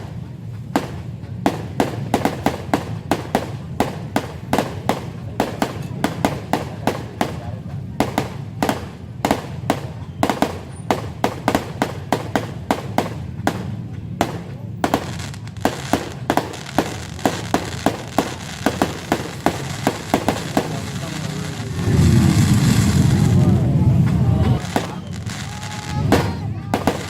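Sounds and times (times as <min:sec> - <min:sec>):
fireworks banging: 0:00.0 - 0:27.0
fireworks crackling: 0:00.0 - 0:27.0.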